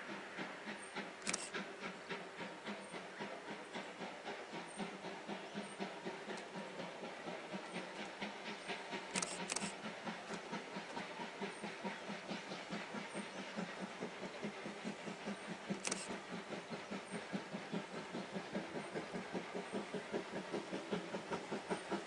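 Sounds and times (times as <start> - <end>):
steam locomotive chuffing: 0.0 - 22.0.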